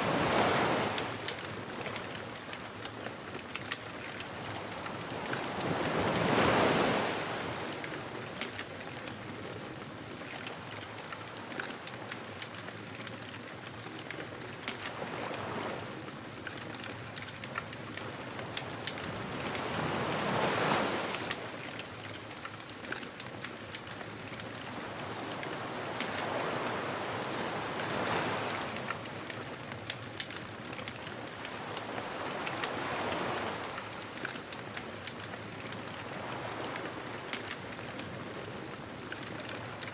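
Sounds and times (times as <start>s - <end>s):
bonfire crackling: 0.0s - 39.9s
ocean waves washing ashore: 0.0s - 39.9s.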